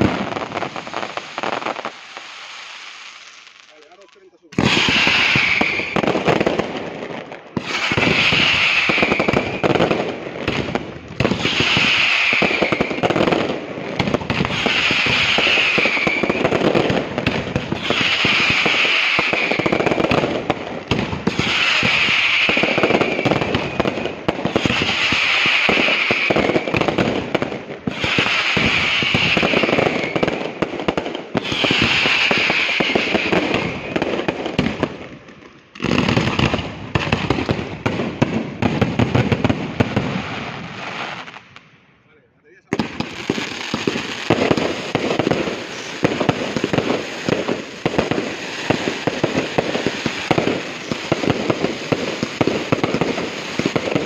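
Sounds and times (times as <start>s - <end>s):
fireworks bangs and crackle: 0.0s - 41.8s, 42.6s - 54.0s.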